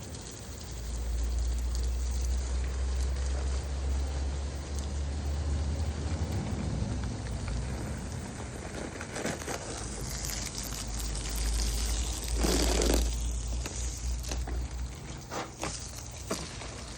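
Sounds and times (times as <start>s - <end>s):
hose water spraying on plants: 0.0s - 16.9s.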